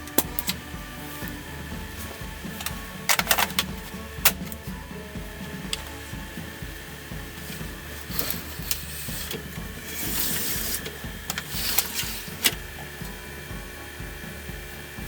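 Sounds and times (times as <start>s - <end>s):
rubbing or scraping: 0.0s - 13.9s.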